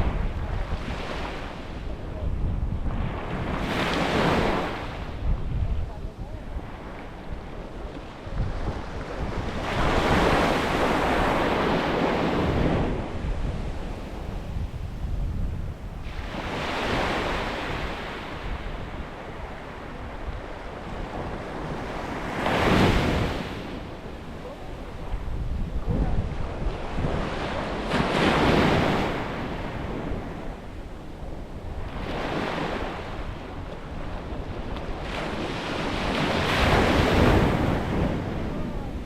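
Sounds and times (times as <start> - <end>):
sea waves breaking on beach: 0.0 - 39.0.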